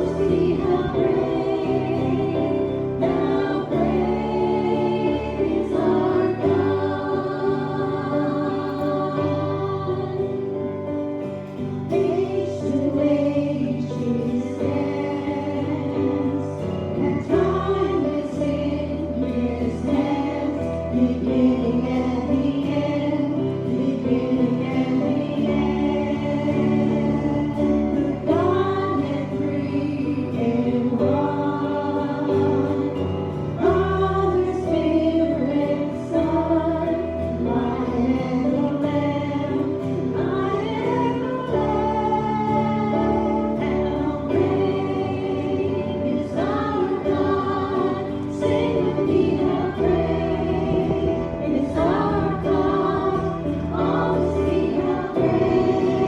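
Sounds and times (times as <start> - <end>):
group singing a hymn: 0.0 - 56.0
low accompaniment: 0.0 - 56.0.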